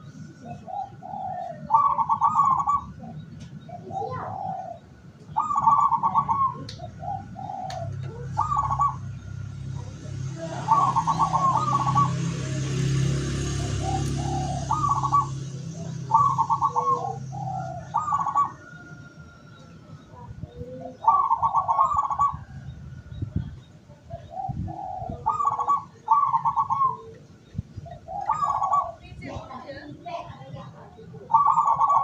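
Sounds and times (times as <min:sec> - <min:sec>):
doves cooing: 0:00.0 - 0:32.0.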